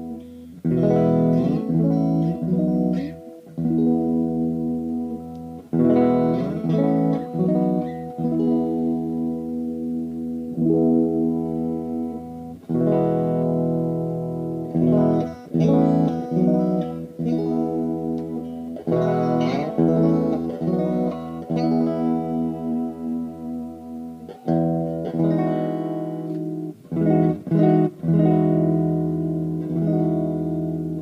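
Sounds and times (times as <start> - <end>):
electric guitar playing: 0.0 - 31.0.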